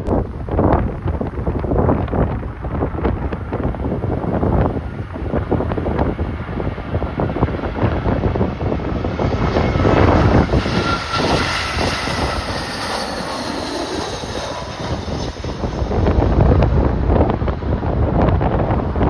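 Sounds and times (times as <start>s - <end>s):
jet engines passing: 0.0s - 19.0s
wind buffeting microphone: 0.0s - 19.0s.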